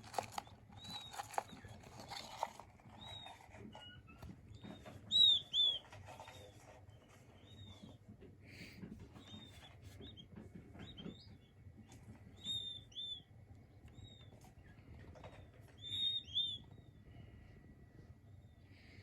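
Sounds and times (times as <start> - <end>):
quail chicks peeping: 0.0 - 17.6.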